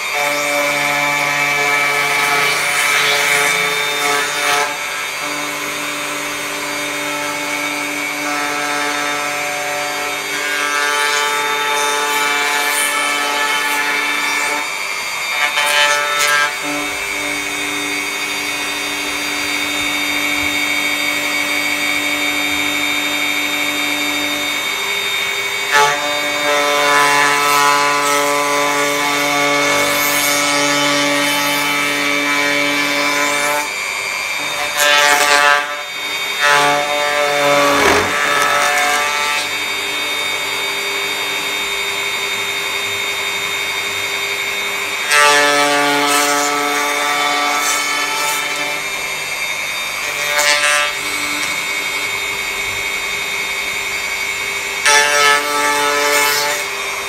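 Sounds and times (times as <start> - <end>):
power planer cutting wood: 0.0 - 57.0.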